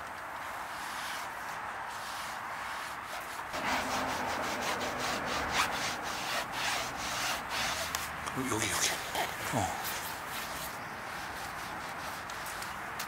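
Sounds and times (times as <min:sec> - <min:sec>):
towel rubbing on car trim: 0:00.7 - 0:08.2, 0:09.0 - 0:12.9.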